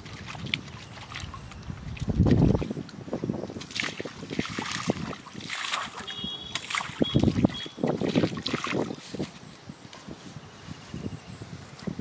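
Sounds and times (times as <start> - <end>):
water splashing and sloshing: 0.0 - 10.3.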